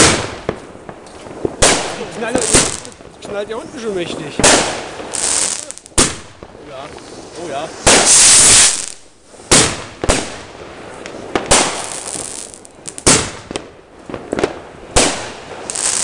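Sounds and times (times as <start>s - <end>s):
fireworks bangs and bursts: 0.0s - 16.0s.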